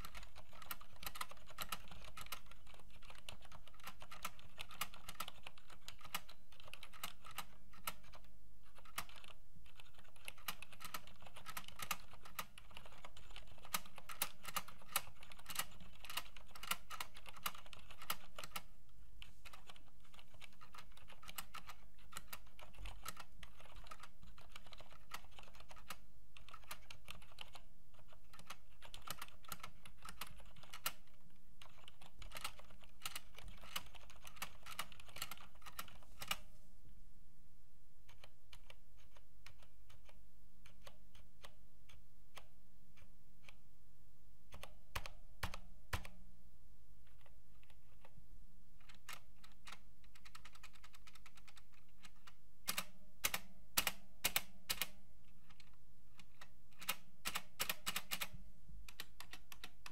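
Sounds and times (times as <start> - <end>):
soft keyboard typing: 0.0 - 36.5, 38.0 - 43.6, 44.5 - 46.2, 47.0 - 48.2, 48.8 - 59.9.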